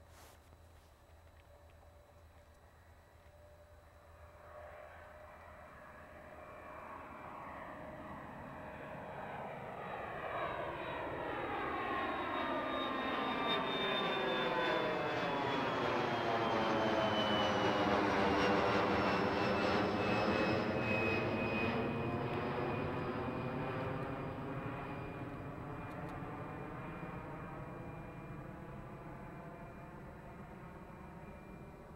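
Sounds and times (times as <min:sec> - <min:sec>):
jet passing overhead: 0:04.1 - 0:31.9.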